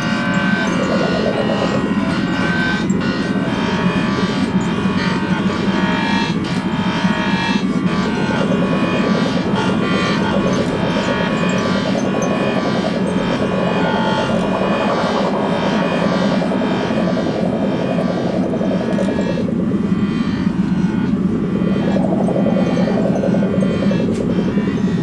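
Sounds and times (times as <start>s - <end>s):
electronic drone: 0.0s - 25.0s.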